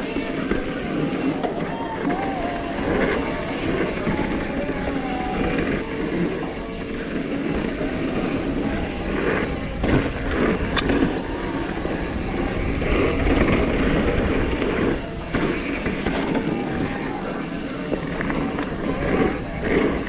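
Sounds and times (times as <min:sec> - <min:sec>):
bike rattling: 0:00.0 - 0:20.0
bike tyres on dirt trail: 0:00.0 - 0:20.0
wind buffeting microphone: 0:00.0 - 0:20.0.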